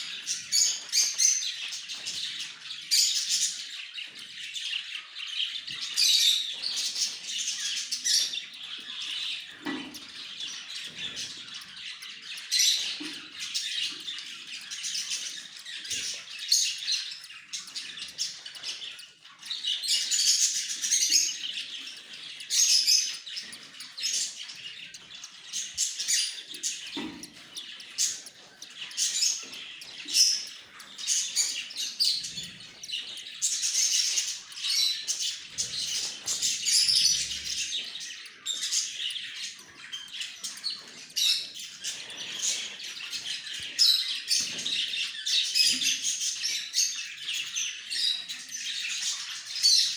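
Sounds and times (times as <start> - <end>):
love birds chirping: 0.0 - 49.9.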